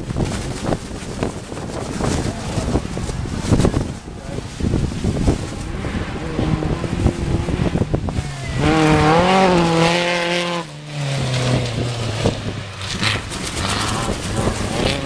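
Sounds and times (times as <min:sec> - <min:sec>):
rally car engine at high revs: 0:00.6 - 0:15.0.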